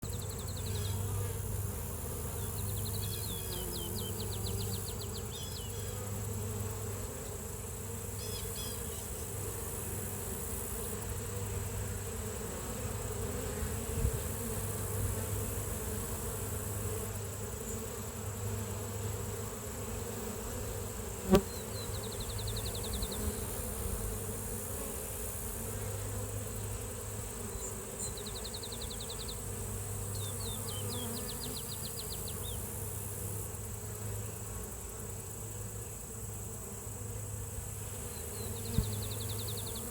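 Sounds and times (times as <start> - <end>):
honeybees buzzing: 0.0 - 39.9.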